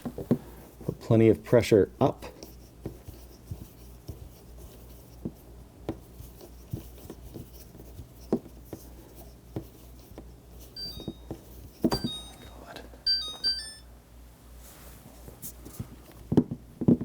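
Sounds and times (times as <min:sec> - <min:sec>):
low steady hum: 0:01.9 - 0:16.8.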